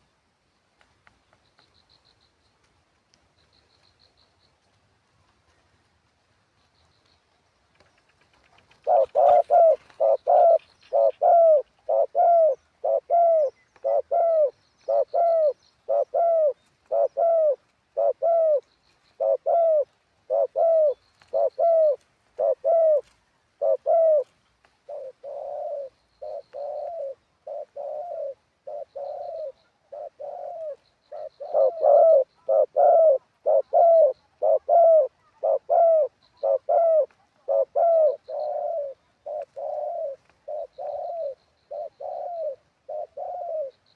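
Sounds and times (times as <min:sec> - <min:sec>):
dove cooing: 0:08.3 - 0:43.9.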